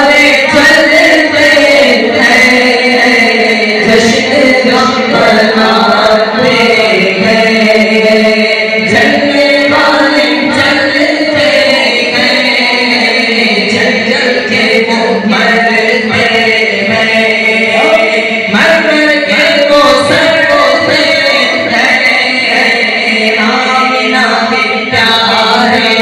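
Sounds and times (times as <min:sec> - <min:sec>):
men singing over loudspeaker: 0:00.0 - 0:26.0.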